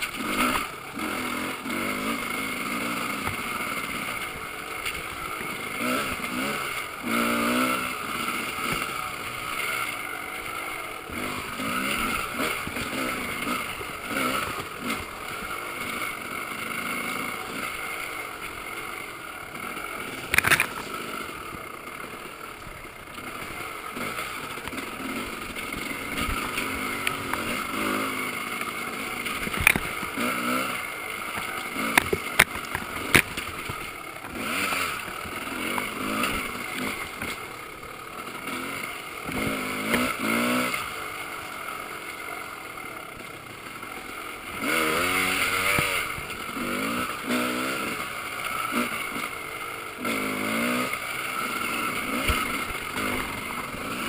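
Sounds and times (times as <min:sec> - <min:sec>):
muffled dirt bike engine revving: 0:00.0 - 0:54.0.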